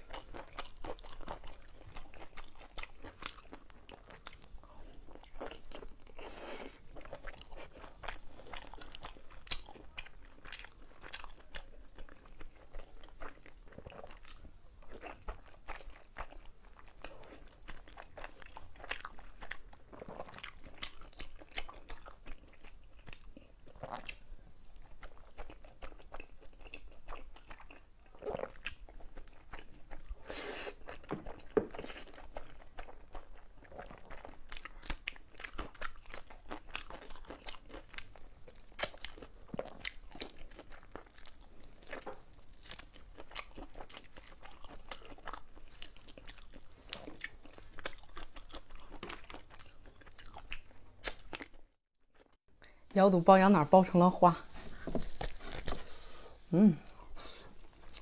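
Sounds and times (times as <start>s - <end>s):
person chewing meat: 0.0s - 52.5s, 54.7s - 58.0s.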